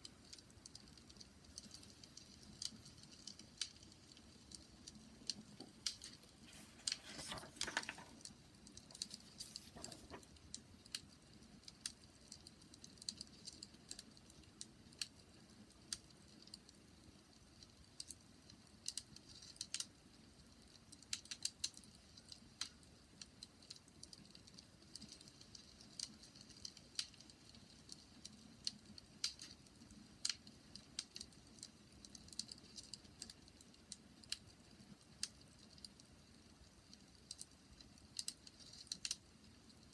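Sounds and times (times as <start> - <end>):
faint steady hiss: 0.0 - 39.9
wood fire crackling: 0.0 - 39.9.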